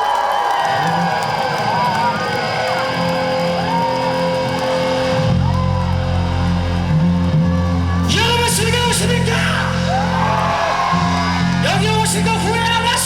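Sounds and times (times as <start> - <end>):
electric guitar chords: 1.2 - 13.0.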